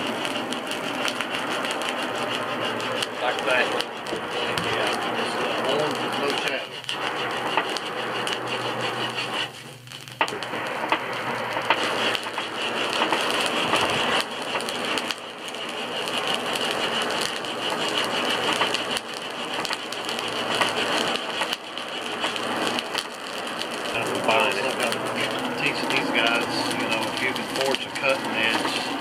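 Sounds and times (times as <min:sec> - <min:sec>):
burning coals popping: 0:00.0 - 0:29.0
forge fire crackling and rushing: 0:00.0 - 0:29.0.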